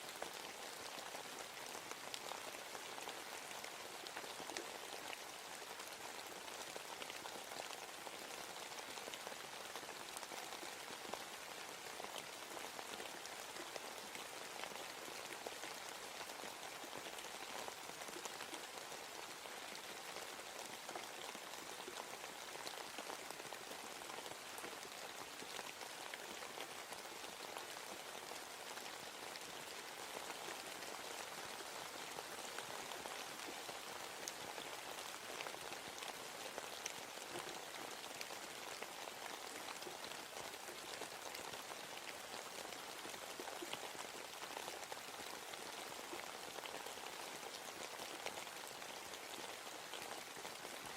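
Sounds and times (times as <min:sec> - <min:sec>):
raindrops pattering on leaves: 0:00.0 - 0:50.9.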